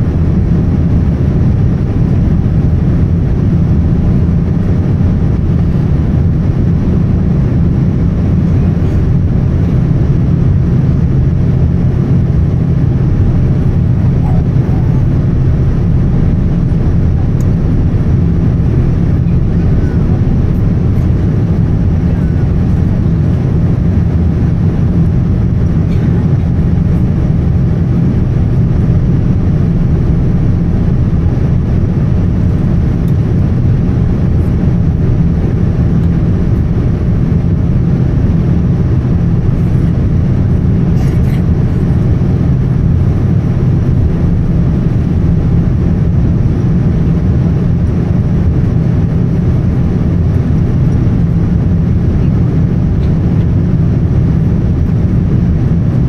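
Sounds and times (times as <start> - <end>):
jet engines rumbling: 0.0 - 56.0
rushing air: 0.0 - 56.0.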